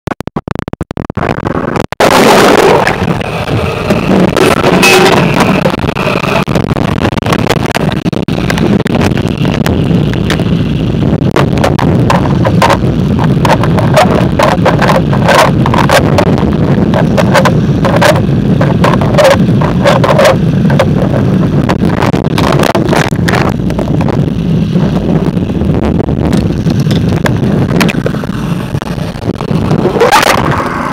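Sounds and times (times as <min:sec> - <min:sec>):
underwater river rumble: 0:00.3 - 0:30.9.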